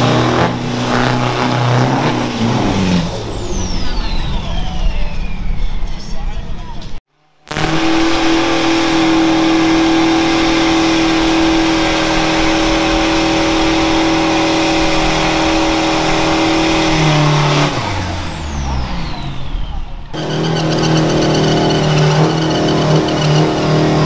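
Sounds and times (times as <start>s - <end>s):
truck engine revving high: 0.0s - 6.0s, 7.5s - 24.0s.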